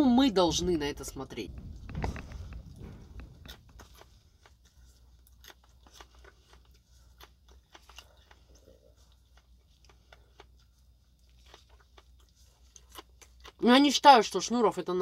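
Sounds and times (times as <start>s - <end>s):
person chewing crunchy food: 1.6s - 14.4s.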